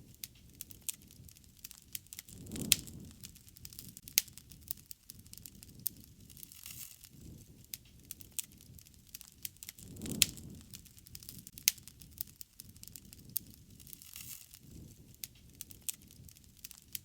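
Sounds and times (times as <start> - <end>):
campfire crackling and popping: 0.0 - 17.0
low rumble of burning: 0.0 - 17.0.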